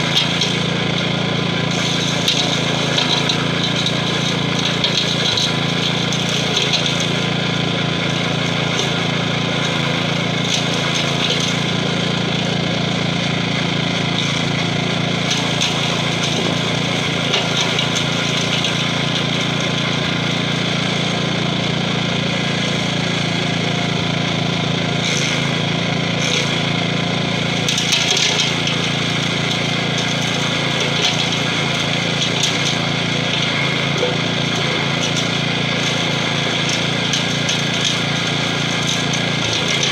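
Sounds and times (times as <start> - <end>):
small engine running: 0.0 - 39.9
stump grinder grinding wood: 0.0 - 39.9.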